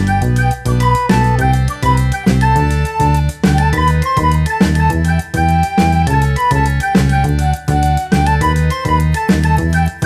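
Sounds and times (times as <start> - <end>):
bouncy background music: 0.0 - 10.0.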